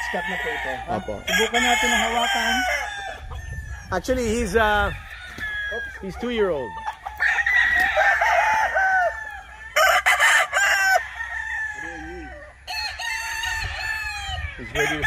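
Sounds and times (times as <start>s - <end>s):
roosters crowing: 0.0s - 15.0s.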